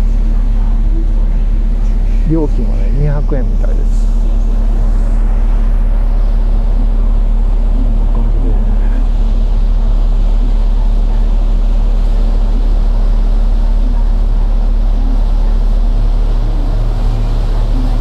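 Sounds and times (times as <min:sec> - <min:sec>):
ferry engines droning: 0:00.0 - 0:18.0.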